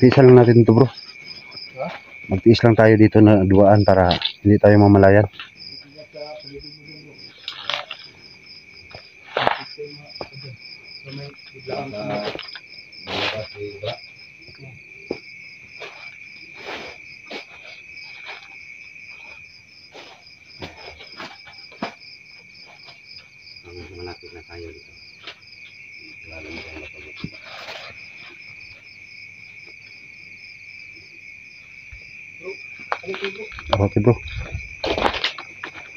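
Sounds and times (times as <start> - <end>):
crickets trilling: 0.0 - 35.9.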